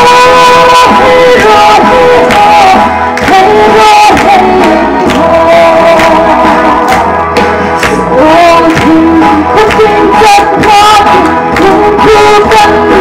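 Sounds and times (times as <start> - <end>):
live song with instruments: 0.0 - 13.0.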